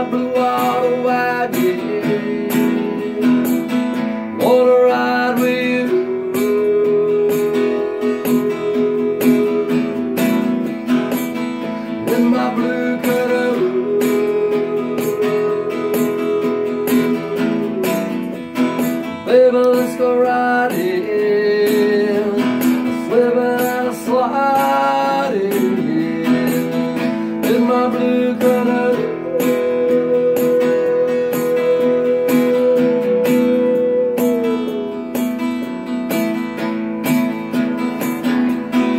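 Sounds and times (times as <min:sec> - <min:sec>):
acoustic guitar playing: 0:00.0 - 0:38.9.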